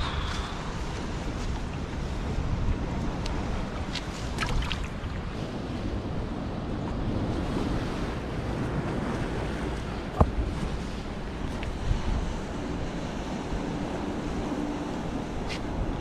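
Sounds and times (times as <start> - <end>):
sea water washing against seawall: 0.0 - 16.0
wind buffeting microphone: 0.0 - 16.0.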